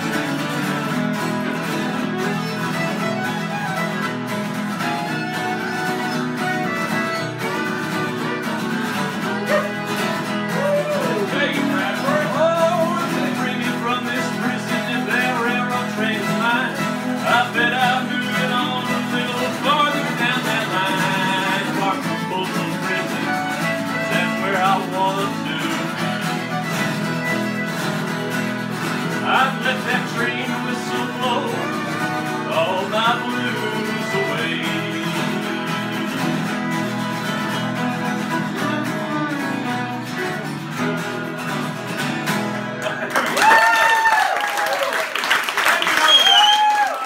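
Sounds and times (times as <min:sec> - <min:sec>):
fiddle lead line: 0:00.0 - 0:42.6
strummed acoustic guitars: 0:00.0 - 0:44.2.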